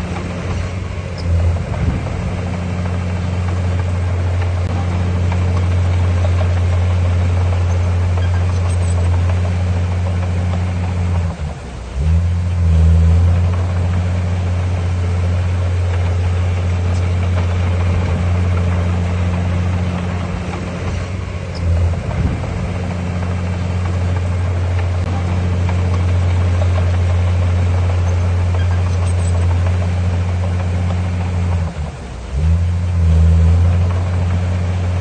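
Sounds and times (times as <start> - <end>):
heavy diesel engine droning: 0.0 - 35.0.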